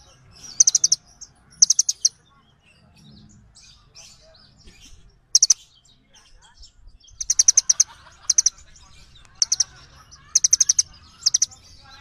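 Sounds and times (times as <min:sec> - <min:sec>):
faint bird chirps: 0:00.0 - 0:12.0
songbirds chipping: 0:00.0 - 0:12.0.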